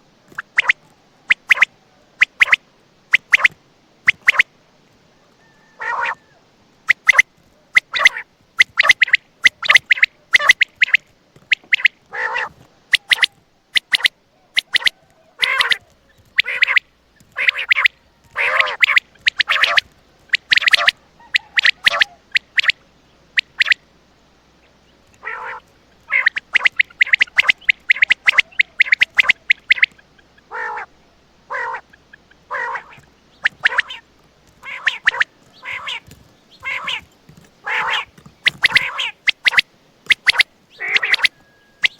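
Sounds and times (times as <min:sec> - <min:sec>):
quail calling: 0:00.0 - 0:04.5, 0:05.2 - 0:41.9.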